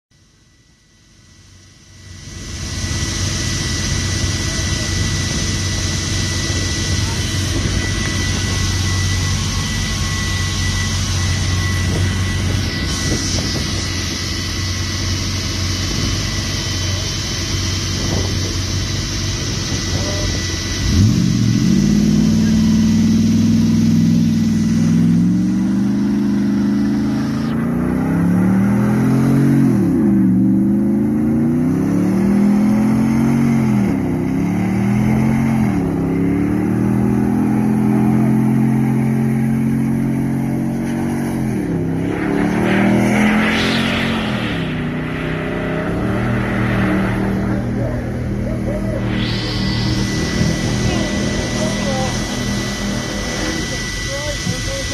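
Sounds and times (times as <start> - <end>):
car engine revving in a burnout: 0.2 - 54.9.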